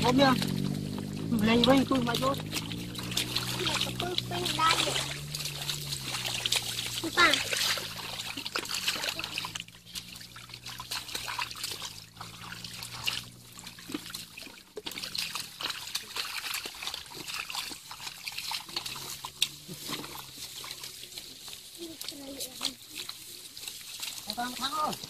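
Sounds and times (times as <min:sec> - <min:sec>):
bare feet squelching in mud: 0:00.0 - 0:25.0
muddy water splashing: 0:00.0 - 0:25.0.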